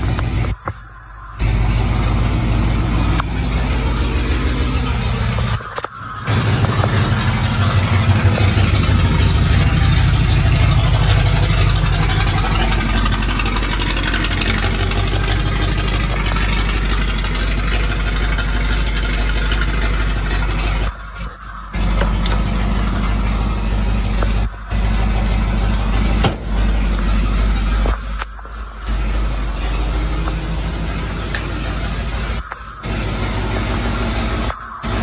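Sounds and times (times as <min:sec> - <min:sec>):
engine idling rumble: 0:00.0 - 0:35.0.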